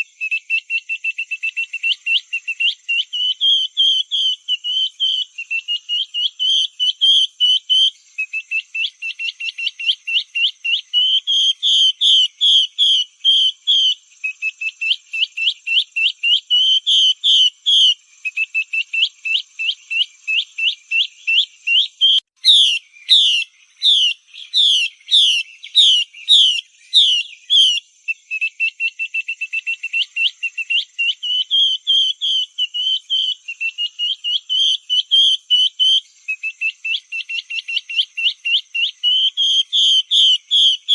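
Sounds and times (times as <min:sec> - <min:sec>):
bird calling rapid repeated notes: 0:00.0 - 0:40.9
upward-sweeping bird whistles: 0:00.0 - 0:40.9.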